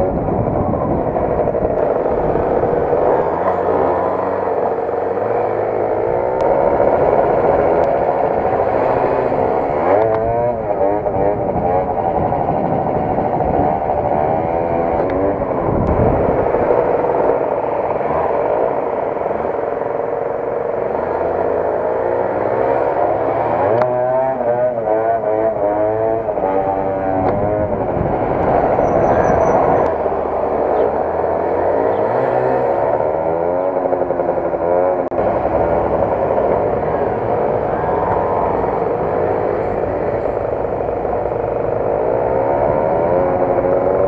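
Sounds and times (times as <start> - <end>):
scooter engine revving: 0.0 - 44.0
wind and road noise: 0.0 - 44.0.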